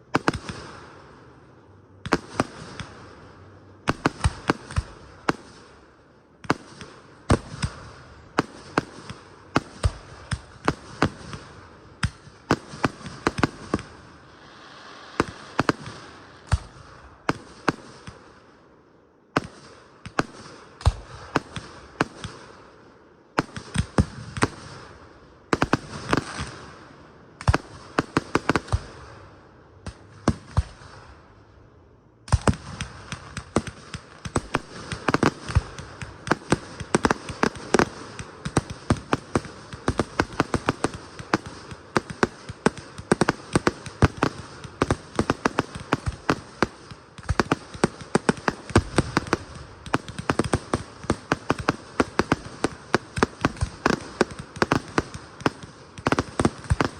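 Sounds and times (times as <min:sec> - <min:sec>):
fireworks crackling: 0:00.0 - 0:18.7, 0:23.4 - 0:29.2, 0:32.3 - 0:56.9
firework bangs: 0:01.9 - 0:05.8, 0:06.4 - 0:18.4, 0:23.4 - 0:29.2, 0:32.3 - 0:56.9.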